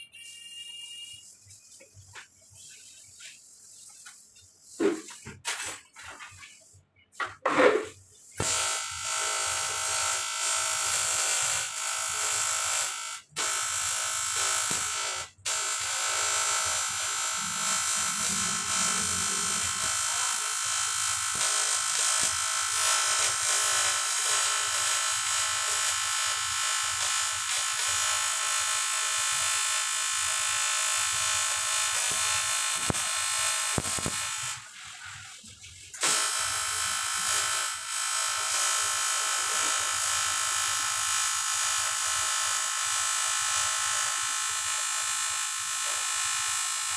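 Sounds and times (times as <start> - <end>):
welding arc buzzing and hissing: 0.3 - 6.5, 7.3 - 46.9.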